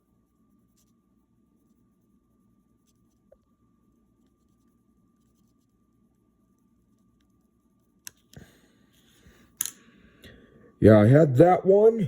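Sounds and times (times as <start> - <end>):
faint steady tone: 0.0 - 11.8.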